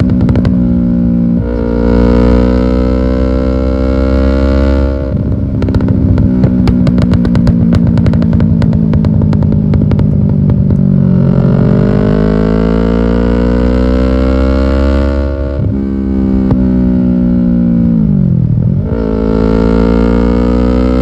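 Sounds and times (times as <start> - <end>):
exhaust crackling and popping: 0.0 - 3.6, 4.6 - 13.5, 15.5 - 21.0
motorcycle engine accelerating: 0.0 - 21.0.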